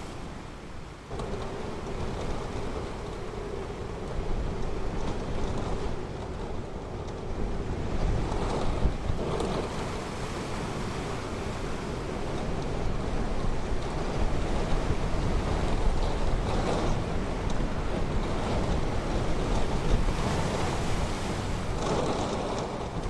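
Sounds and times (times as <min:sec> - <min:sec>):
ocean surf washing ashore: 0:00.0 - 0:23.0
wind buffeting microphone: 0:00.0 - 0:23.0.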